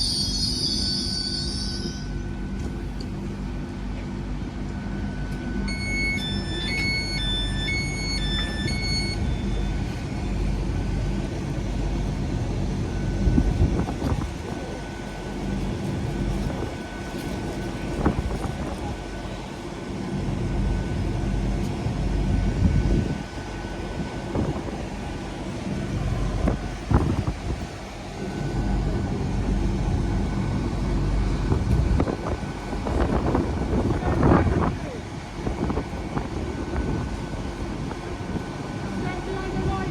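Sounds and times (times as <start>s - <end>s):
high steady whine: 0.0s - 39.9s
diesel engine idling: 2.3s - 39.9s.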